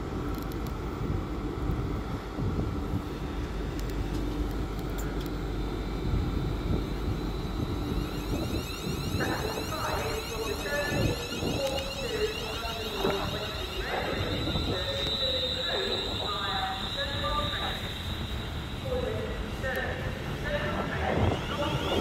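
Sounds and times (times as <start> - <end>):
train low rumble: 0.0 - 22.0
high-pitched whine: 3.2 - 22.0.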